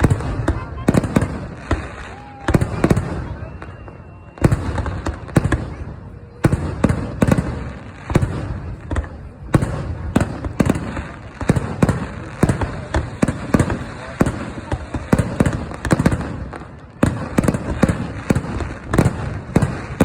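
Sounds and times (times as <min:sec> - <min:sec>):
fireworks bursting with bangs: 0:00.0 - 0:20.0.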